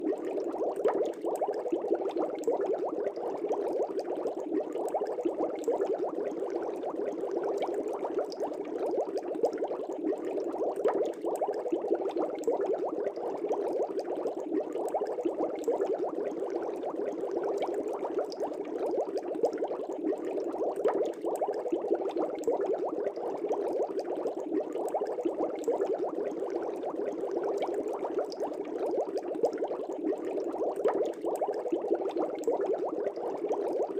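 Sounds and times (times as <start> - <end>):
air bubbling in fish tank: 0.0 - 33.9.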